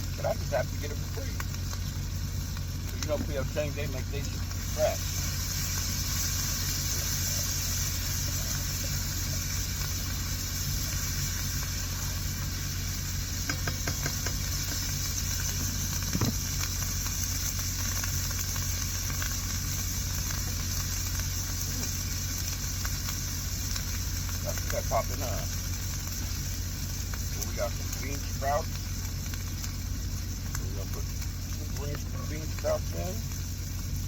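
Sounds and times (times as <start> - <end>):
constant low hum: 0.0 - 34.0
food sizzling in a pan: 0.0 - 34.0.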